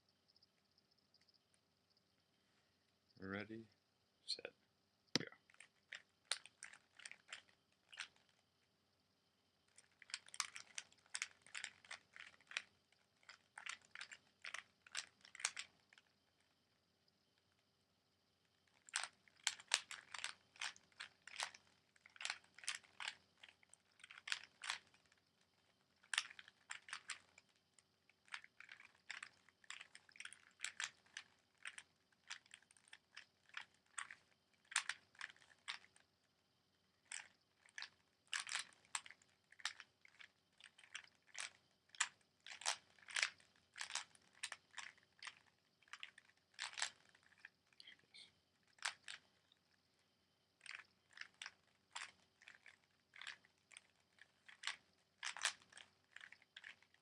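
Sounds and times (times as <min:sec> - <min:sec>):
puzzle cube clicking: 0:05.2 - 0:08.4, 0:09.7 - 0:16.5, 0:18.5 - 0:36.0, 0:37.0 - 0:49.6, 0:50.6 - 0:57.0.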